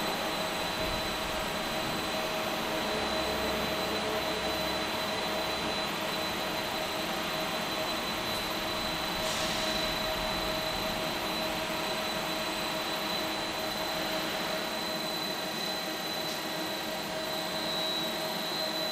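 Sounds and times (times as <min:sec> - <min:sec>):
high-pitched whines: 0:00.0 - 0:18.9.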